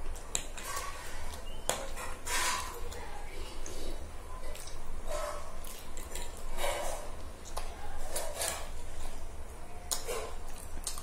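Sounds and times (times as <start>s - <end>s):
noodles slurped and chewed: 0.0s - 11.0s.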